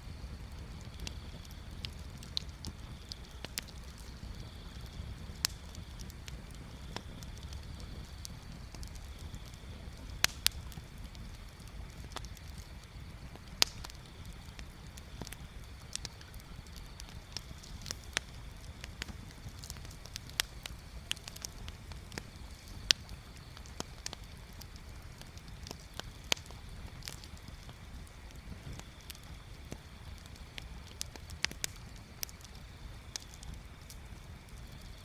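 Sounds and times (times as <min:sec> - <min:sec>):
bonfire crackling and popping: 0:00.0 - 0:35.0.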